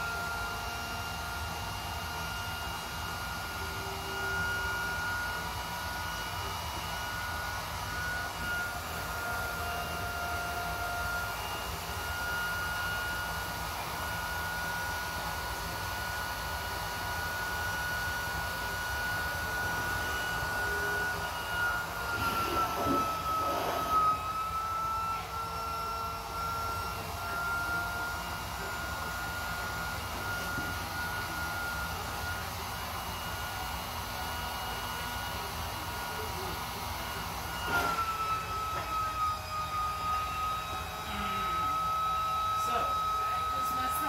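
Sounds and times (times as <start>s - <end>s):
electric air pump whining: 0.0s - 44.0s.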